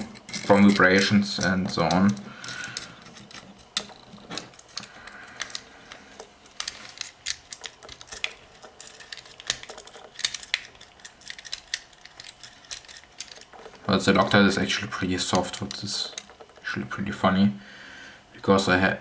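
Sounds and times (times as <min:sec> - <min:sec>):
small metal parts clicking: 0:00.0 - 0:16.8.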